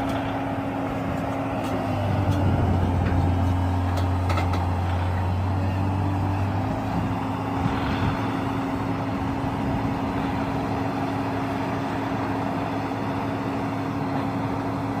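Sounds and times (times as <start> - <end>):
deep drone: 0.0 - 15.0
diesel drill rig running: 0.0 - 15.0.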